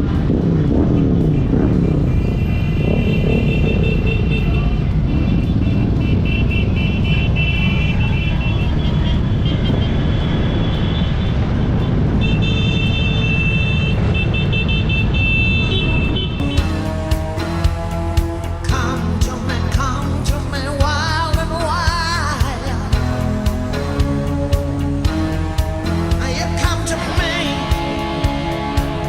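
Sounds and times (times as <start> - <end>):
horns tooting: 0.0 - 29.0
motorcycle engines rumbling: 0.0 - 29.0.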